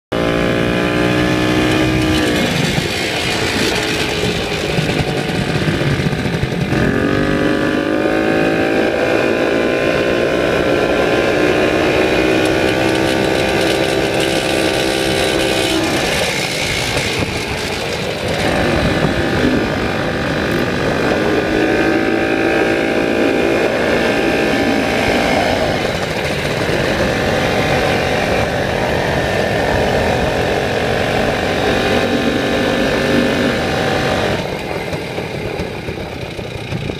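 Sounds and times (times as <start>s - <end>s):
motorcycle engine running: 0.1s - 36.9s.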